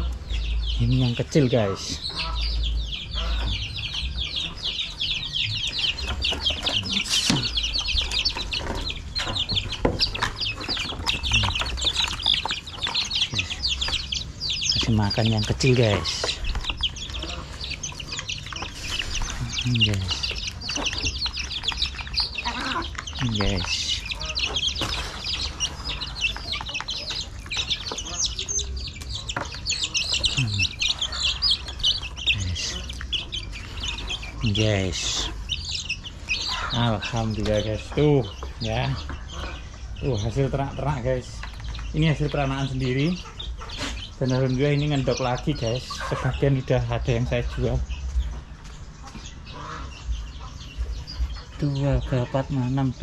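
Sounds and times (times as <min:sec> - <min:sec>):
chicks peeping: 0:00.0 - 0:53.0.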